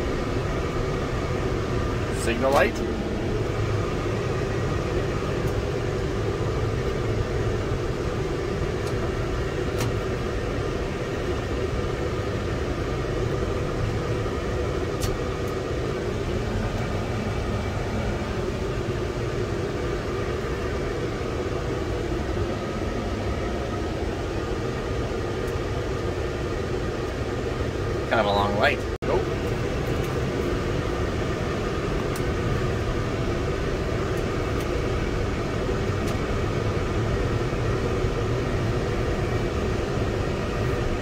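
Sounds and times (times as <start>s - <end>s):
heater blower fan noise: 0.0s - 41.0s.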